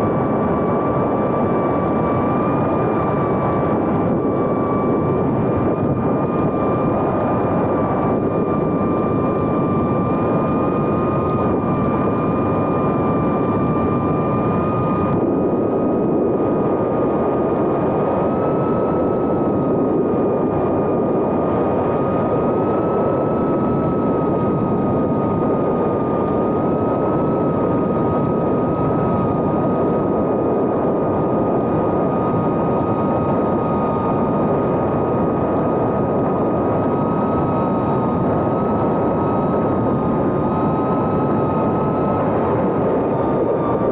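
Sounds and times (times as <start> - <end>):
propeller rush: 0.0 - 43.9.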